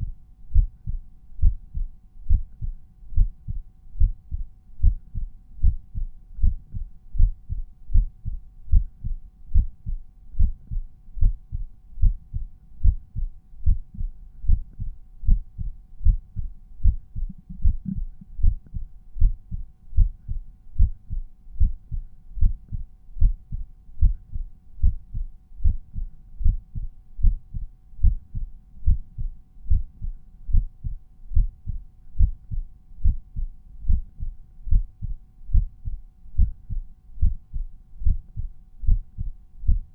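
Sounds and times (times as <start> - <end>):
faint steady hum: 0.0 - 39.9
heartbeat: 0.0 - 39.9.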